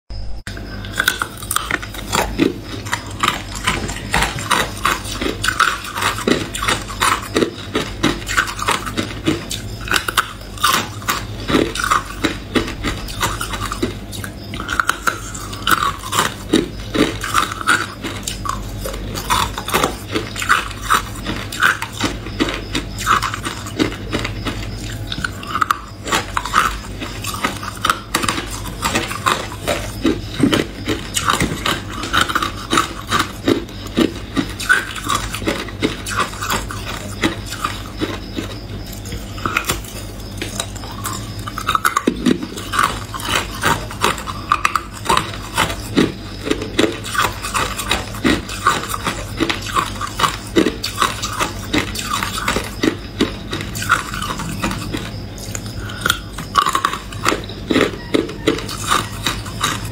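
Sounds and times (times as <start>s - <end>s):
ice crunching being chewed: 0.2s - 59.9s.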